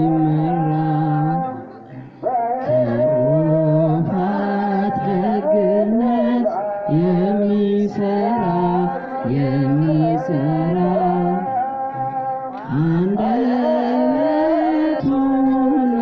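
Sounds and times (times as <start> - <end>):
man singing a hymn: 0.0 - 16.0.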